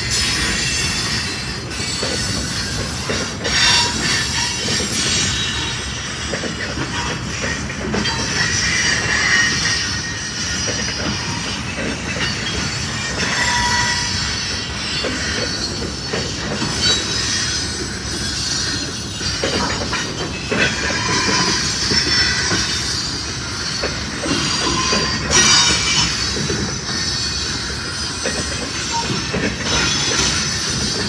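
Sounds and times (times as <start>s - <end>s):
train rolling rumble: 0.0s - 31.0s
train wheels clicking over rail joints: 0.0s - 31.0s
high-pitched wheel squeals: 0.1s - 6.3s, 8.0s - 31.0s.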